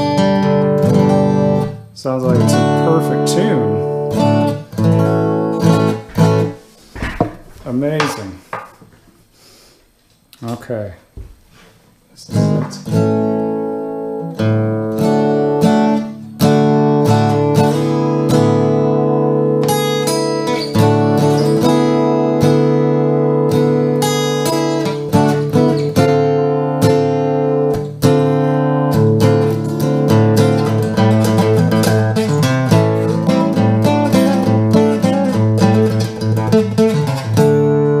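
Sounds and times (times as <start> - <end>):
acoustic guitar chords: 0.0 - 6.7, 12.2 - 38.0.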